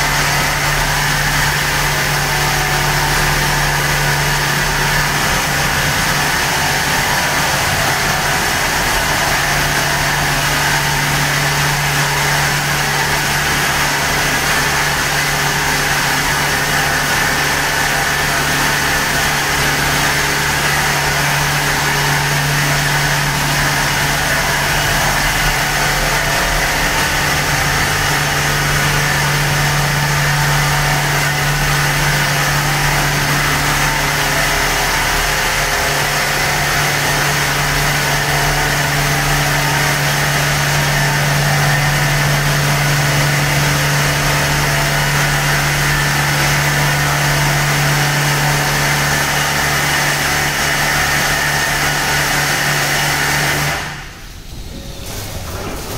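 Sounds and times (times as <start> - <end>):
high-pressure pump hum: 0.0 - 55.9.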